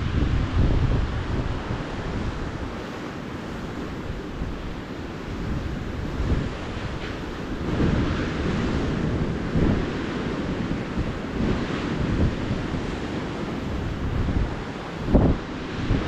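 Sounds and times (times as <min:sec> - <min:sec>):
ocean surf washing ashore: 0:00.0 - 0:16.0
wind buffeting microphone: 0:00.0 - 0:16.0.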